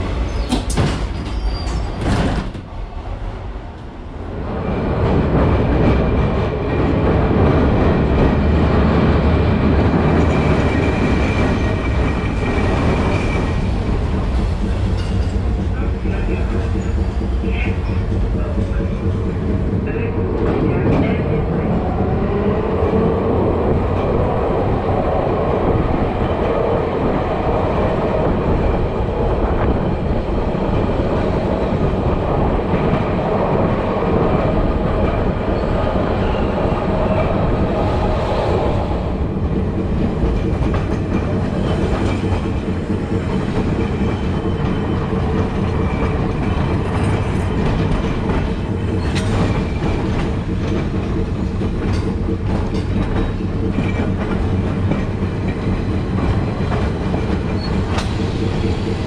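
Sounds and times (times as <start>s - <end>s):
tram body rattling: 0.0s - 2.8s, 3.7s - 59.0s
tram wheels clattering on rails: 0.0s - 2.8s, 3.7s - 59.0s.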